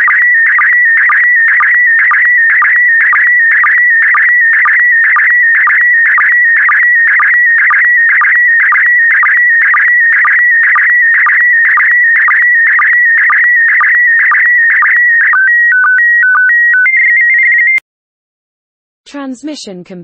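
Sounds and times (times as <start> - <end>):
short lower sync blips: 0.0 - 17.8
warbling sstv picture signal: 0.0 - 17.8.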